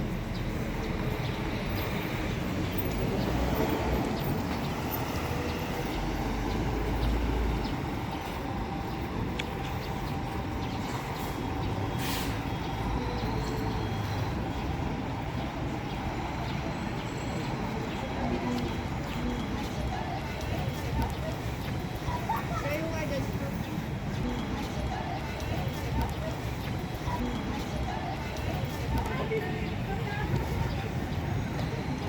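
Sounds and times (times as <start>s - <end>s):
coach engine low rumble: 0.0s - 32.0s.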